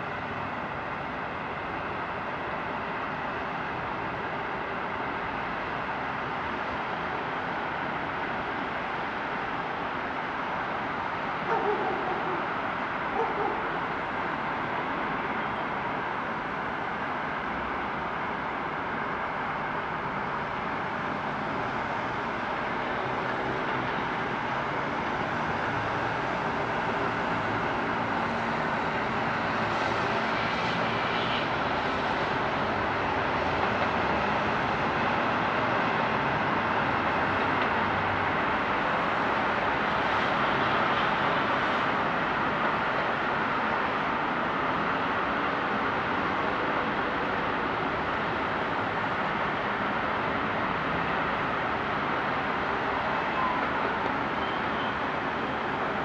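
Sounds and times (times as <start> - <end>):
distant traffic noise: 0.0 - 56.0.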